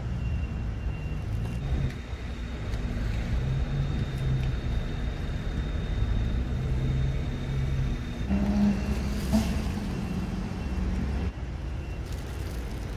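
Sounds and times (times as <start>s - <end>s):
vehicle engine low rumble: 0.0s - 12.9s.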